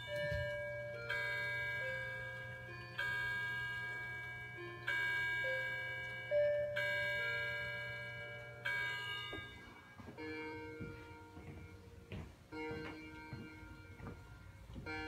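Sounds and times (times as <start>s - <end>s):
clock bell strikes: 0.0s - 15.0s
low clock chime: 0.0s - 15.0s.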